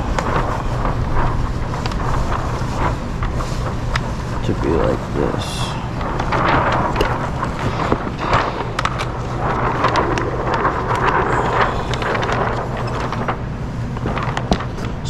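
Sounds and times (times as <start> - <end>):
plastic film rustling and crinkling: 0.0 - 15.0
steady low hum: 0.0 - 15.0.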